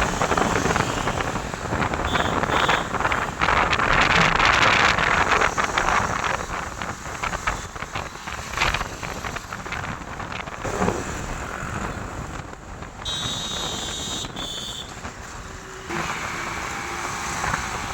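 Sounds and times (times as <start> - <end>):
vehicle road noise: 0.0 - 17.9
wind on microphone: 0.0 - 17.9.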